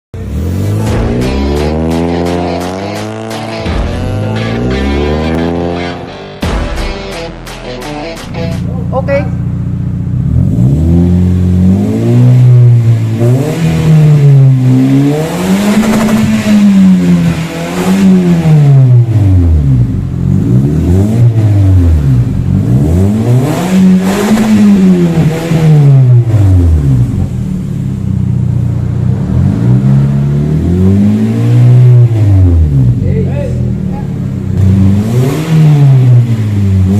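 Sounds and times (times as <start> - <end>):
car engine revving: 0.2 - 33.0, 33.6 - 36.9.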